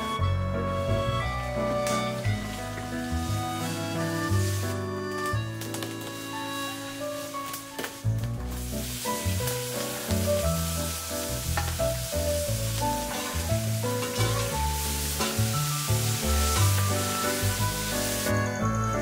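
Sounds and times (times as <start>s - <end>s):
background music: 0.0s - 19.0s
food sizzling in a pan: 2.2s - 4.8s, 5.8s - 19.0s.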